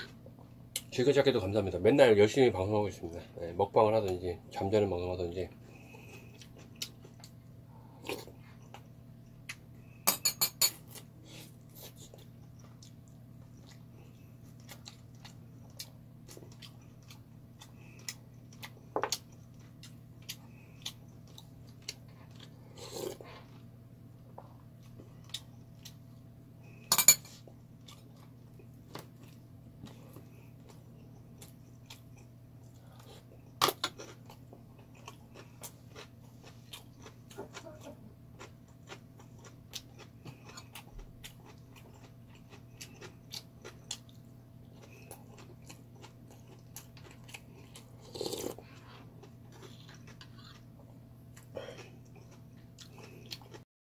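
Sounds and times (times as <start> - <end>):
person chewing: 5.7 - 10.0, 10.8 - 53.6.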